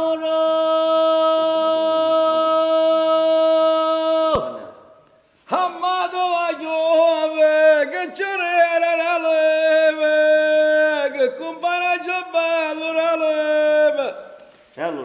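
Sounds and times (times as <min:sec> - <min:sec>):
man singing vendor's cry: 0:00.0 - 0:04.7, 0:05.5 - 0:14.4.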